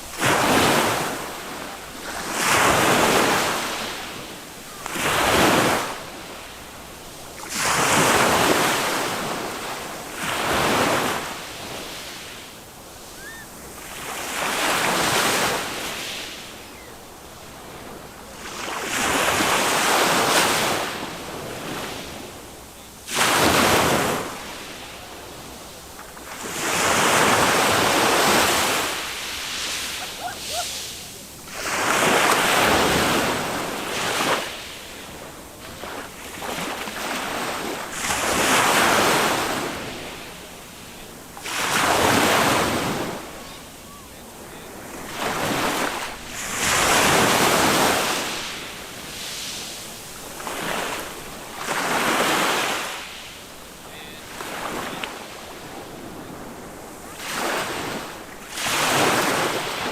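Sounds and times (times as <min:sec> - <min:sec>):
small waves breaking on sand: 0:00.0 - 0:59.9.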